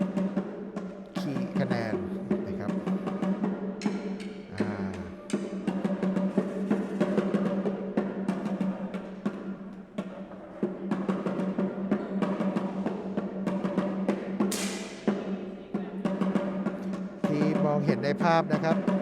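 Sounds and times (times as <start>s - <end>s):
background music with drums: 0.0s - 19.0s.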